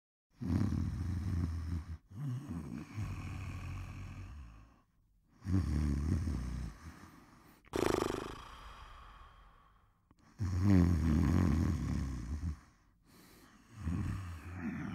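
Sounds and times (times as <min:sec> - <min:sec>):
person snoring: 0:00.4 - 0:14.9.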